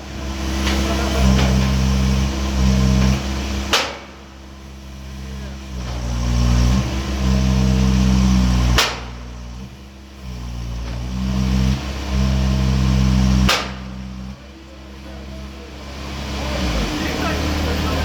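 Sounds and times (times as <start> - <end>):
engine hum: 0.0 - 18.0
hydraulic hammer blows: 0.0 - 18.0.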